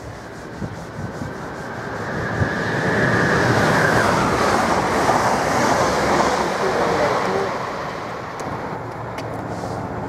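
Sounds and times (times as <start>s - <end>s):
high train whine: 0.0s - 10.0s
train wheels rushing on rails: 0.0s - 10.0s.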